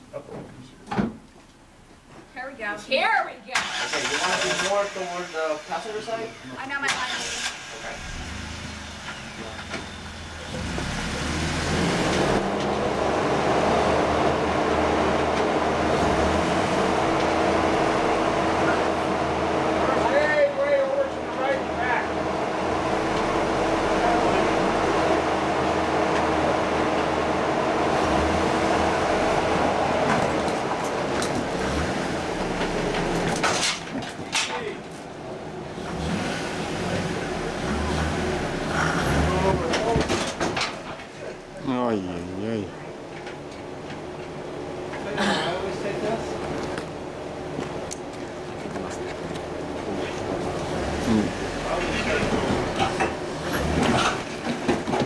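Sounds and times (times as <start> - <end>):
off-road vehicle engine: 3.5 - 55.0.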